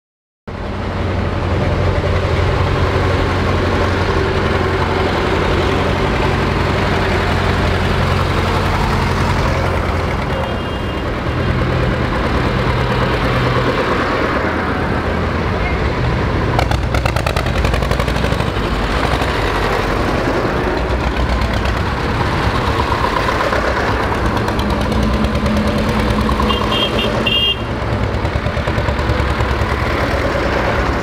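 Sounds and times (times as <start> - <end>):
tractor engines running: 0.5 - 31.0.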